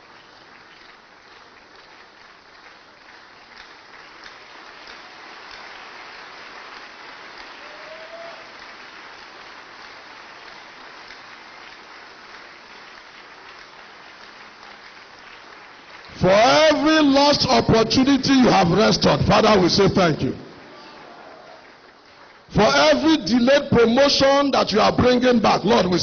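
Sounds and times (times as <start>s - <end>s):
congregation clapping: 0.0s - 26.0s.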